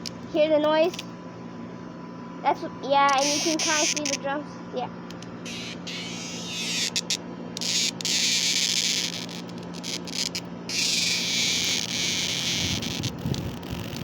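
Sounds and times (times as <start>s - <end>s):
cicada buzzing: 2.6s - 14.0s.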